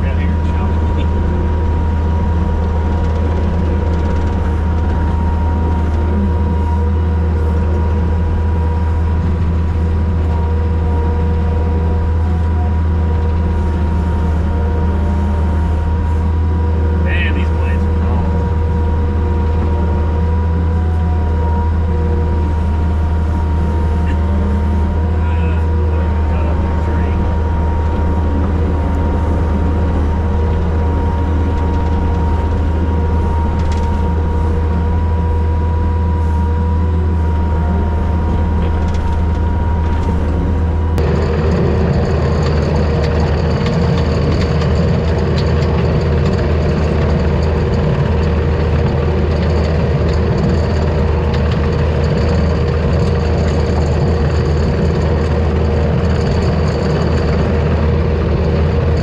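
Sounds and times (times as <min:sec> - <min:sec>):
diesel engine hum: 0:00.0 - 0:59.0
high whine of brush cutter: 0:00.0 - 0:59.0.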